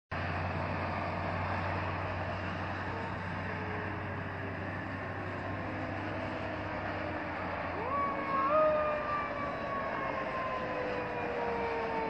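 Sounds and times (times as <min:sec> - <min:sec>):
road traffic: 0:00.1 - 0:12.0.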